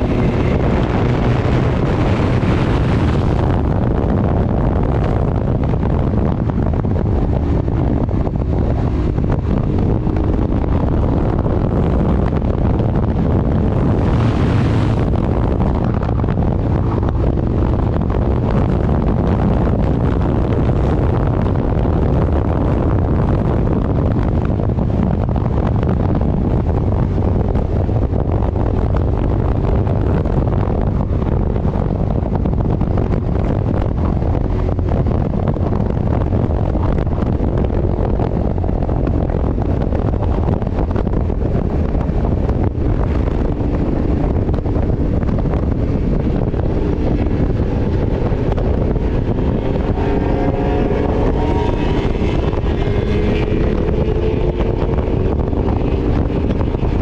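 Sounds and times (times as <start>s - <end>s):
motorcycle engine drone: 0.0s - 57.0s
wind buffeting microphone: 0.0s - 57.0s.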